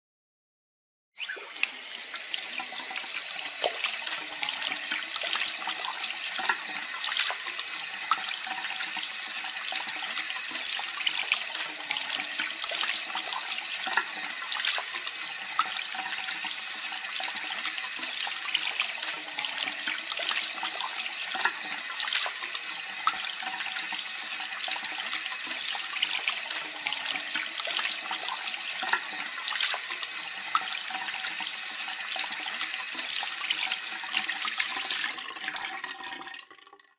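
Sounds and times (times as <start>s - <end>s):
water running from a tap: 1.2s - 36.9s.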